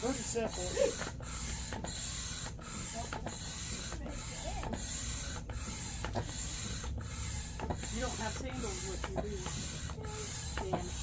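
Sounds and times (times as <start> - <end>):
air pump hissing: 0.0 - 11.0.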